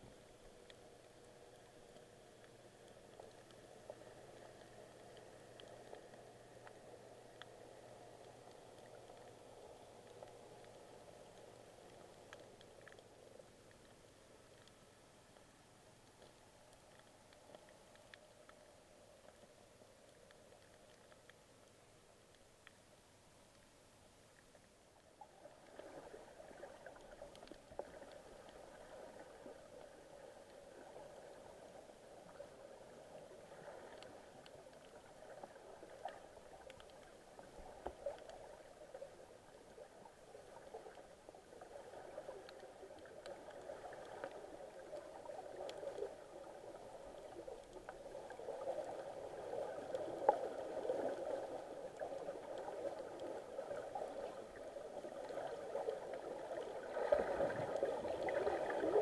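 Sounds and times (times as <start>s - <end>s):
small underwater clicks: 0.0s - 59.0s.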